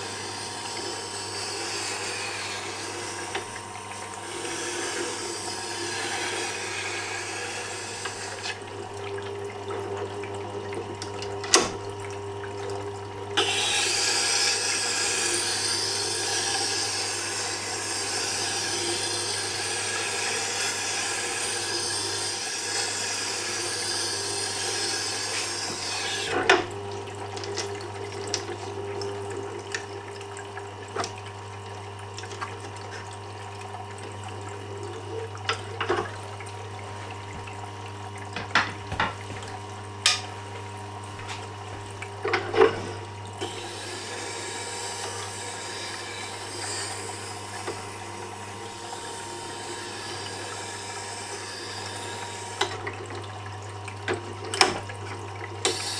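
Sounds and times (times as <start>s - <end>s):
grinder motor hum: 0.0s - 55.9s.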